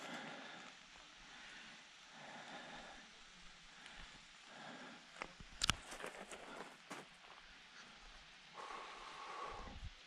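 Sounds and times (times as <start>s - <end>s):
soft footsteps on a trail: 0.0s - 8.4s
low hiss: 0.0s - 10.0s.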